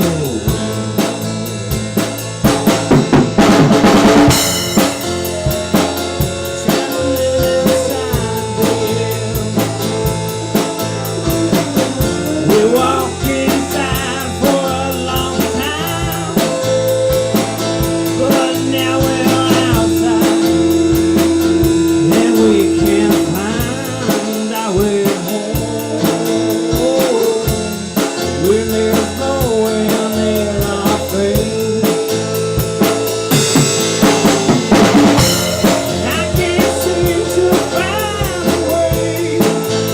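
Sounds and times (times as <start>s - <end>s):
blues-rock band playing: 0.0s - 39.9s.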